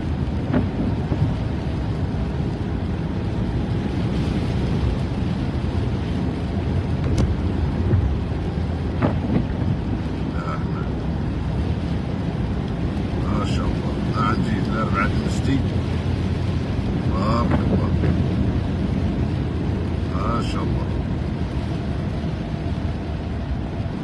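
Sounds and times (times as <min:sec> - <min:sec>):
car tyres and engine rumble: 0:00.0 - 0:24.0.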